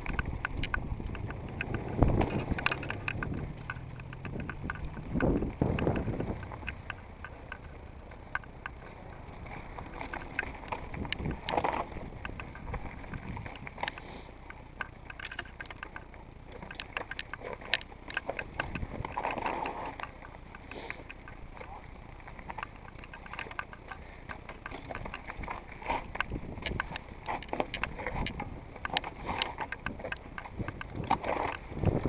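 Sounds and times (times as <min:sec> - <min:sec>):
bike rattling over stones: 0:00.0 - 0:32.0
bike tyres rumbling on dirt trail: 0:00.0 - 0:32.0.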